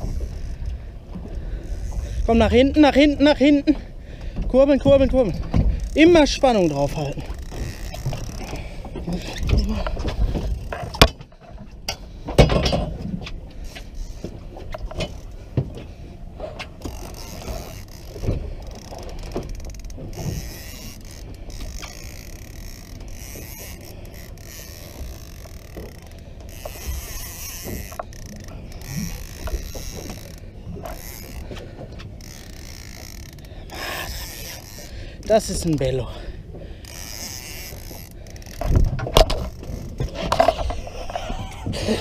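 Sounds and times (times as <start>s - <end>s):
fishing reel whirring and clicking: 0.0s - 3.8s, 5.0s - 11.1s, 16.6s - 42.0s.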